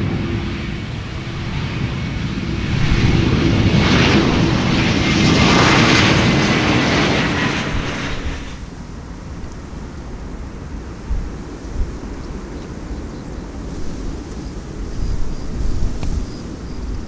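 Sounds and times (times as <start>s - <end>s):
jet engines rushing and whining: 0.0s - 17.0s.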